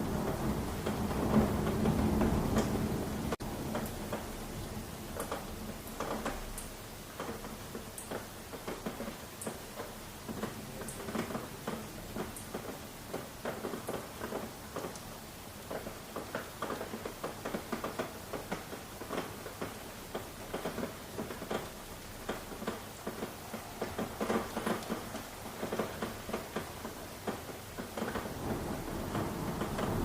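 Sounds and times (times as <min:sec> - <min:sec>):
raindrops pattering: 0:00.0 - 0:30.0.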